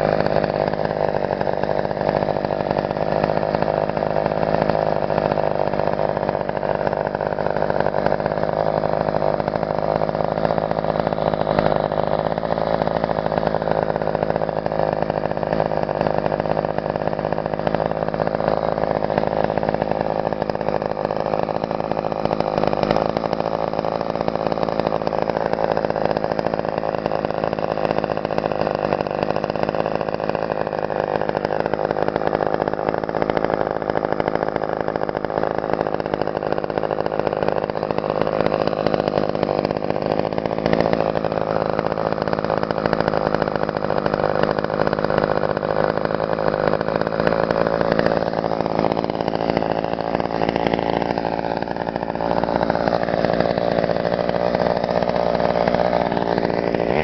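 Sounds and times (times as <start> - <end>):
chainsaw engine idling: 0.0 - 57.0.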